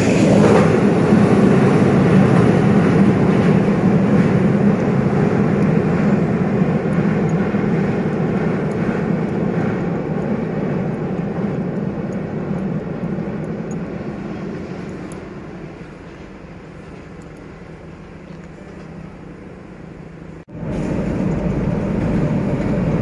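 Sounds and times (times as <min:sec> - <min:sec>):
train rumbling across a bridge: 0:00.0 - 0:23.0.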